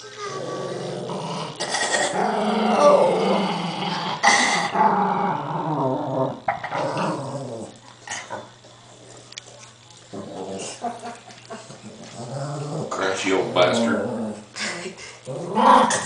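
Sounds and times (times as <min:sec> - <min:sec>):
dog growling and snarling: 0:00.0 - 0:08.5, 0:10.1 - 0:16.0.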